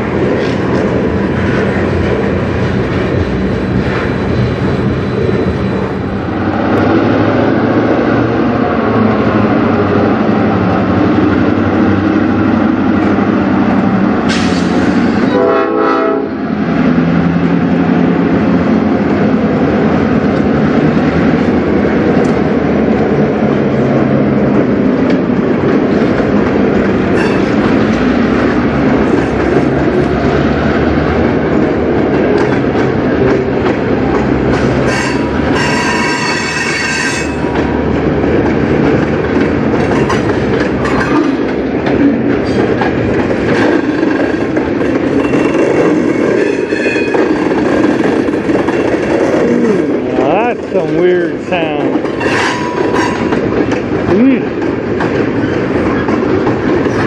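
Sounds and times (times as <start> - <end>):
train wheel clatter: 0.0 - 6.9, 10.6 - 15.4, 16.8 - 57.0
diesel locomotives rumbling: 0.0 - 57.0.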